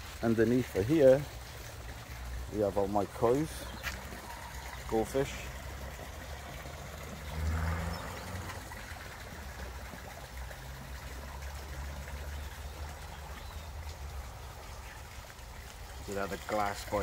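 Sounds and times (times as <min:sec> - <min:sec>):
water trickling into pond: 0:00.0 - 0:17.0.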